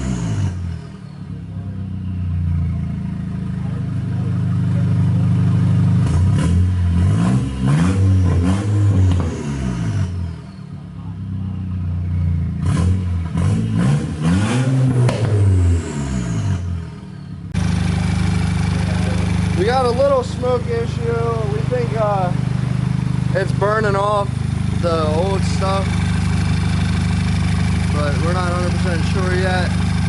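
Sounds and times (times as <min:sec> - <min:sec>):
turbocharged car engine revving: 0:00.0 - 0:30.0.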